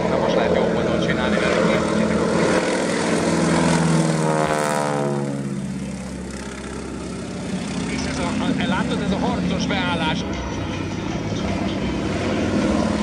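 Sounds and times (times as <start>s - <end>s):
biplane engine flying past: 0.0s - 13.0s.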